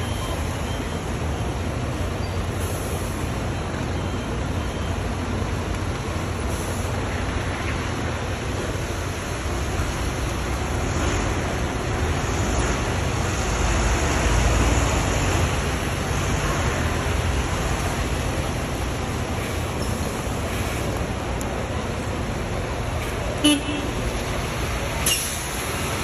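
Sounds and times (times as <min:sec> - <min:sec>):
diesel buses rumbling: 0:00.0 - 0:26.0.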